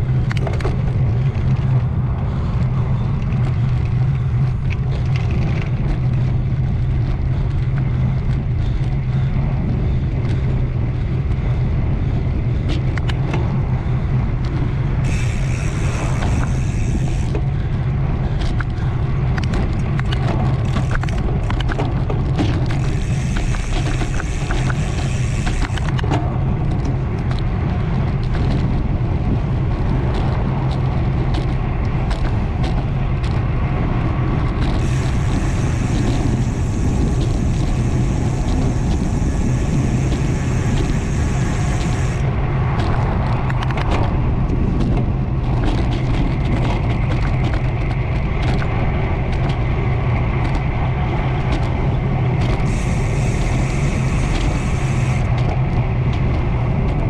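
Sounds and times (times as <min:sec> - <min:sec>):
bicycle clicks and rattles: 0:00.0 - 0:57.0
wind and tyre rumble: 0:00.0 - 0:57.0.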